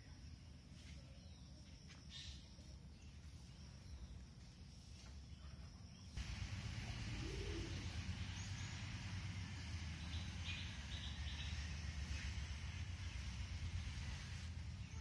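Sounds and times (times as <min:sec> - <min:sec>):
insect-like hiss: 0:00.0 - 0:15.0
bird chirping: 0:00.1 - 0:12.5.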